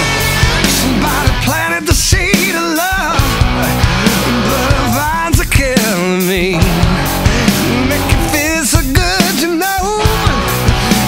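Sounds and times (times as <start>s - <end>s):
rock music with drums: 0.0s - 11.0s.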